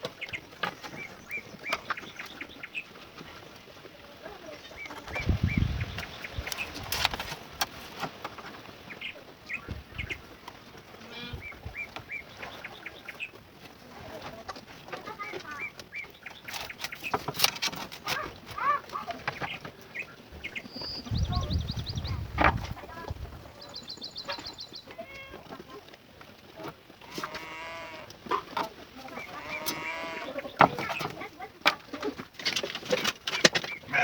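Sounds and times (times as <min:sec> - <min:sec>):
small birds chirping: 0:00.0 - 0:07.5, 0:08.4 - 0:34.0.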